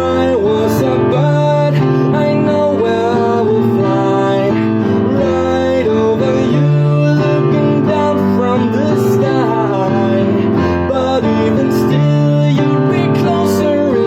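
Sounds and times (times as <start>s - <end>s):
person singing slow melody: 0.0s - 14.0s.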